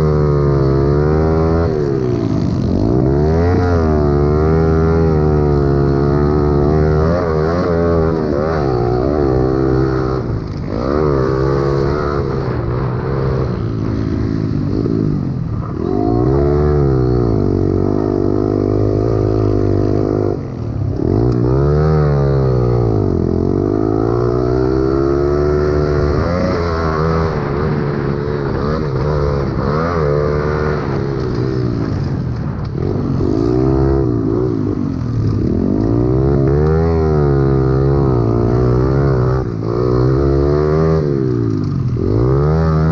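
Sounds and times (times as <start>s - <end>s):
small motorbike engine revving: 0.0s - 42.9s.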